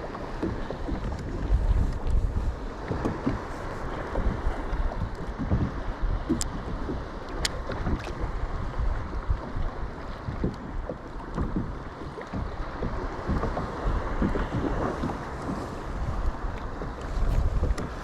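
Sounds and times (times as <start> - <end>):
waves splashing: 0.0 - 18.0
wind buffeting microphone: 0.0 - 18.0.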